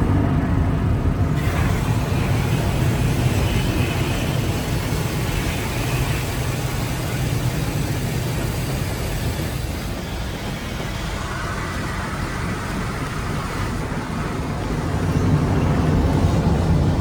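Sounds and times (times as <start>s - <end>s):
hiss of road noise: 1.2s - 17.0s.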